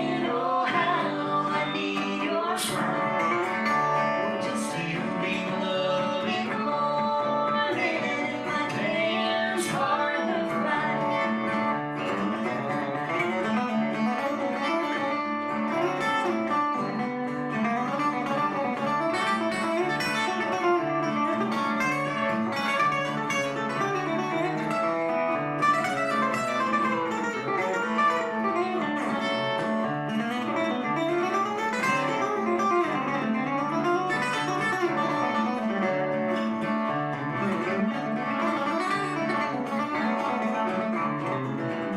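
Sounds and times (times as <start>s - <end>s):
country acoustic guitar music: 0.0s - 41.9s.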